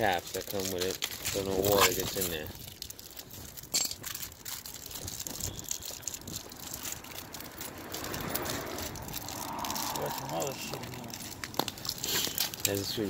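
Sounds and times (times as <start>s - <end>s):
faint steady background noise: 0.0s - 13.0s
rustling: 0.0s - 13.0s
light clicks of small parts: 0.3s - 13.0s.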